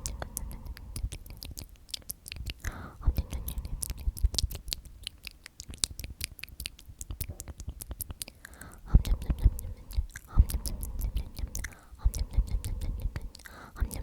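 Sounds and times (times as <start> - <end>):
person whispering: 0.0 - 4.9, 7.1 - 14.0
wet mouth clicks and smacks: 0.0 - 14.0.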